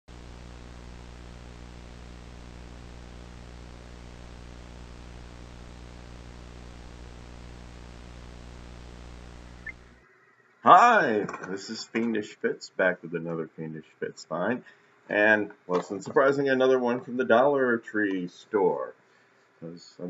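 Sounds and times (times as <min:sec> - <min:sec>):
television static hiss: 0:00.1 - 0:10.0, 0:10.6 - 0:19.0
buzzing electrical hum: 0:00.1 - 0:20.0.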